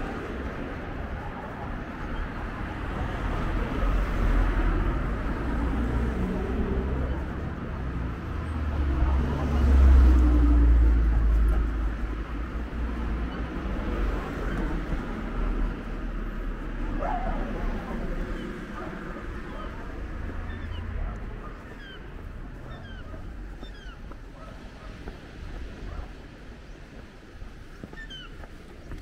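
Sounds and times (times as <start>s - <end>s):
cars passing on road: 0.0s - 29.0s.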